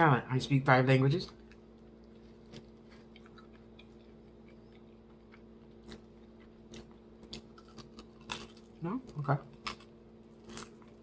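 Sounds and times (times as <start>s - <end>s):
chewing: 1.3s - 11.0s.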